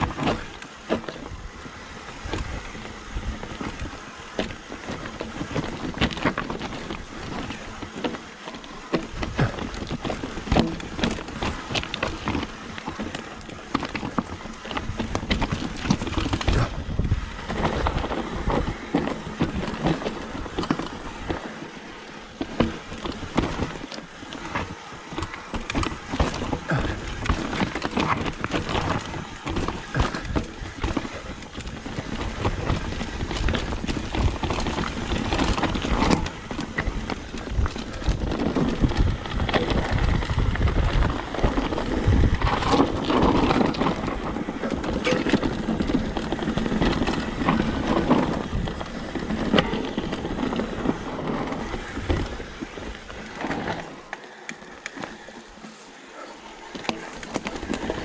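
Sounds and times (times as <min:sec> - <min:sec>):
wind on microphone: 0:00.0 - 0:55.7
bike rattling: 0:00.0 - 0:58.0
tyres crunching over stones: 0:00.0 - 0:58.0.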